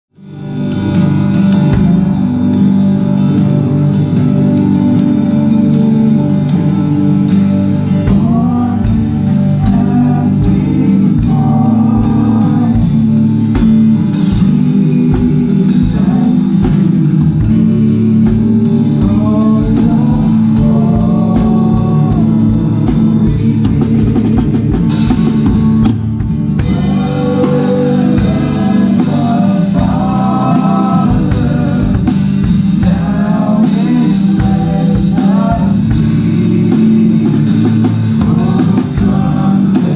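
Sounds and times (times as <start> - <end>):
worship band playing live: 0.2 - 39.9
person singing: 0.4 - 39.9.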